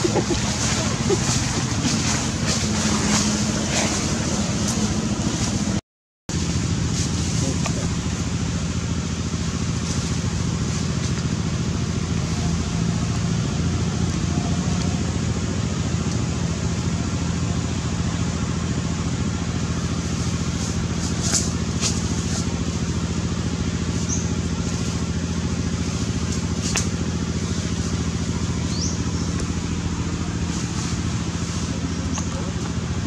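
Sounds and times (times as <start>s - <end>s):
low mechanical motor hum: 0.0s - 33.0s.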